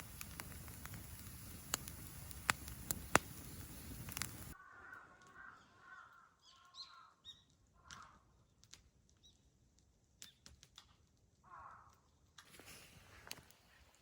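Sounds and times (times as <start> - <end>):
bonfire crackling: 0.0 - 14.0.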